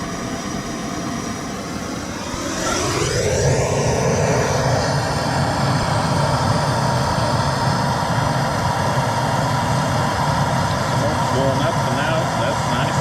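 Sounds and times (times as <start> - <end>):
propane torch burning: 1.3 - 13.0.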